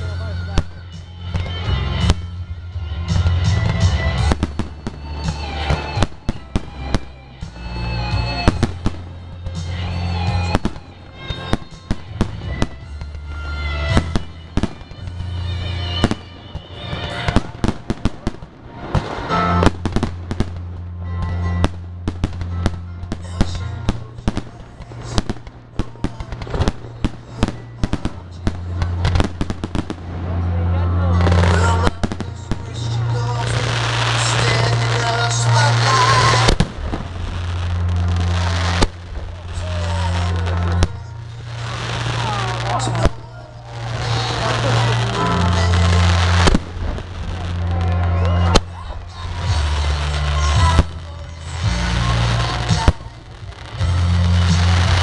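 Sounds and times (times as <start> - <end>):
fireworks bangs and crackles: 0.0 - 55.0
music: 0.0 - 55.0.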